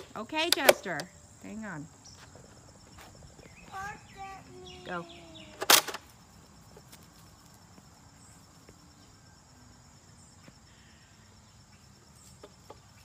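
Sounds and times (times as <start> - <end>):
high insect hum: 0.0 - 13.0.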